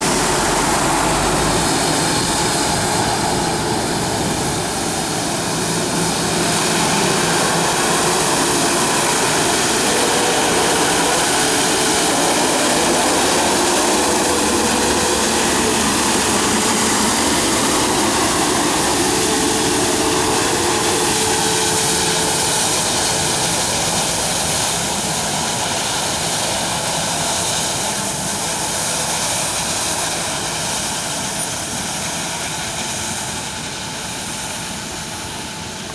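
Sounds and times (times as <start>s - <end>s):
road sweeping machine rushing: 0.0s - 35.9s.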